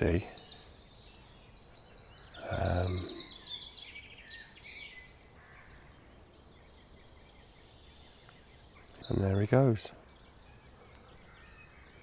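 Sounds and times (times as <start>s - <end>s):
birds chirping: 0.0s - 12.0s
faint outdoor background: 0.0s - 12.0s.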